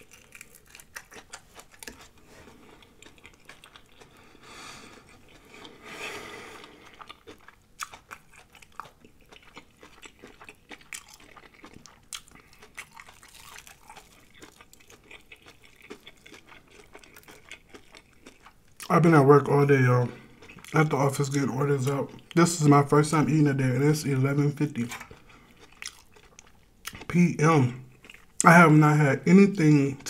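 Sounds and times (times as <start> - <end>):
crunching and chewing fried food: 0.0 - 30.0.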